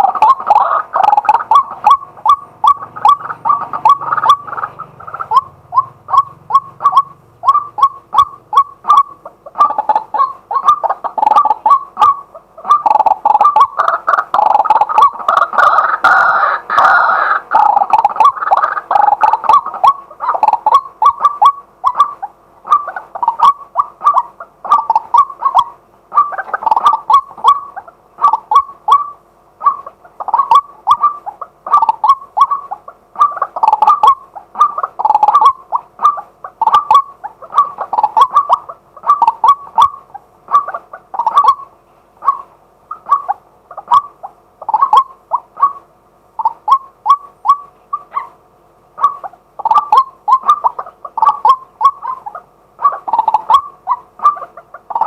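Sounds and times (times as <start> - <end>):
waterhen calling: 0.0 - 55.0.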